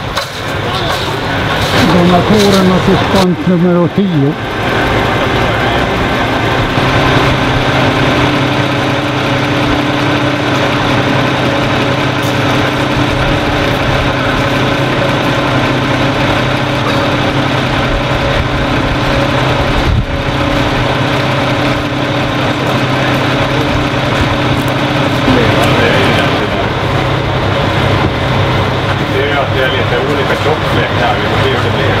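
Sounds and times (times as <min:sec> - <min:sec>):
crane engine running: 0:00.0 - 0:32.0.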